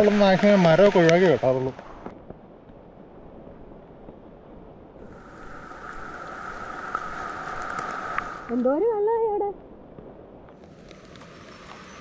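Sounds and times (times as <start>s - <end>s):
rain falling on foliage: 0.0s - 12.0s.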